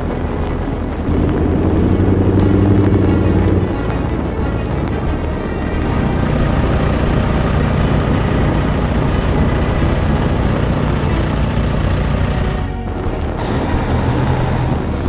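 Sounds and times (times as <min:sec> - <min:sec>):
heavy vehicle engine rumble: 0:00.0 - 0:15.0.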